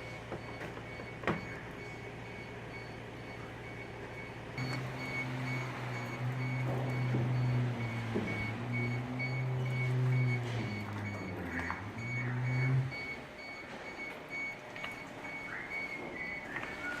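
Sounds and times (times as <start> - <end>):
dumper motor hum: 0.0 - 17.0
warning beeper: 3.2 - 17.0.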